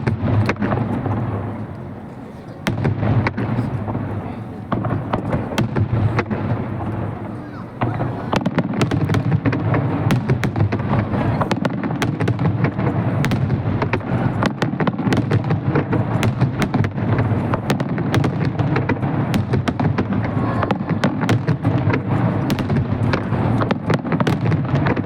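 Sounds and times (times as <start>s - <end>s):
fireworks exploding: 0.0s - 25.0s.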